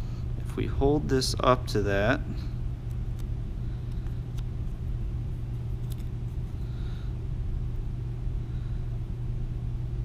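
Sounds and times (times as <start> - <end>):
low ventilation hum: 0.0 - 10.0.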